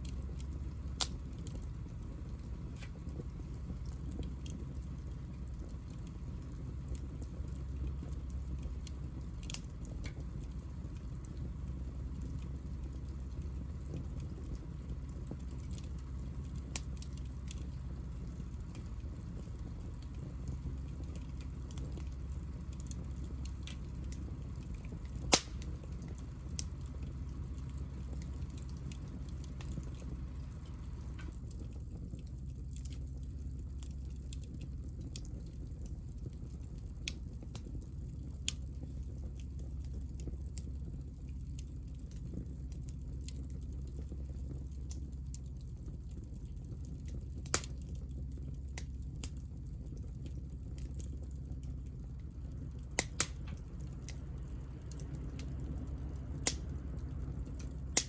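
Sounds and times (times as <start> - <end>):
low fire rumble: 0.0 - 58.0
wood fire popping and crackling: 0.0 - 58.0.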